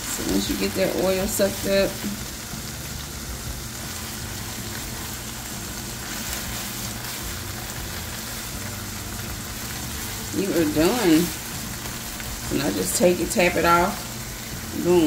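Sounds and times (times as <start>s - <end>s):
meat sizzling in a skillet: 0.0s - 15.0s.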